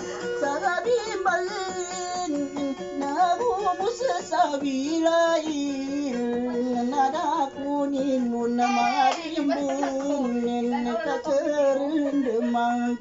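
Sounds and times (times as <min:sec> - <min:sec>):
acoustic guitar strumming: 0:00.0 - 0:13.0
man singing: 0:00.4 - 0:13.0.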